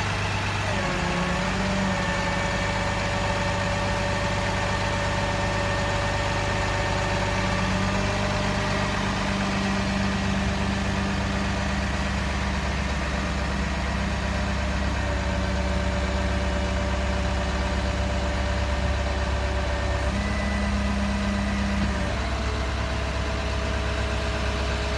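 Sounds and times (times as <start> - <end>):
truck engine running: 0.0 - 24.9.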